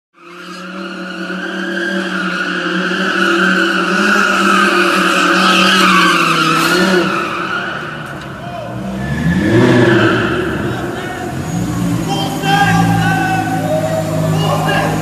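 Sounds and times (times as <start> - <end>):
car tyres squealing: 0.2 - 15.0
engine at high revs: 0.2 - 15.0.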